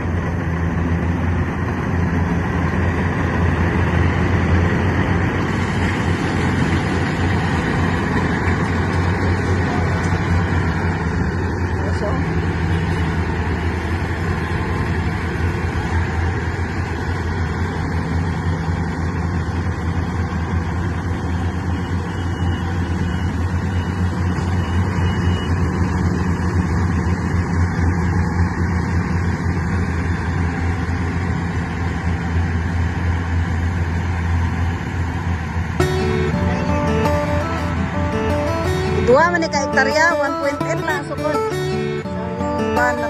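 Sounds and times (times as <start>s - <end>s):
engine running steadily: 0.0s - 43.0s.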